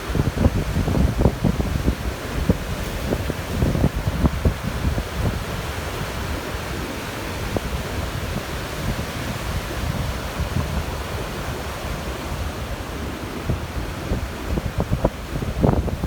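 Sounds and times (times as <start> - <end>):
ocean surf rushing: 0.0 - 16.0
wind on microphone: 0.0 - 16.0.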